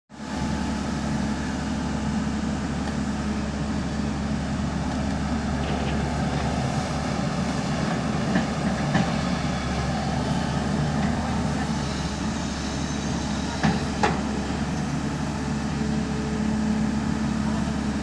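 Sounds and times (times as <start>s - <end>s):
diesel engine running: 0.2s - 18.0s.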